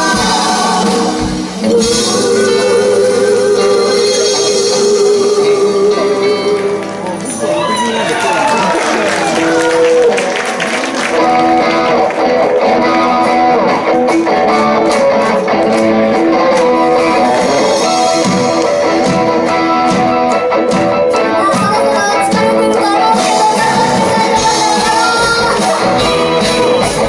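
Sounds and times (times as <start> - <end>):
guitars strummed and picked: 0.0 - 7.8, 9.2 - 27.0
rock band playing: 0.0 - 27.0.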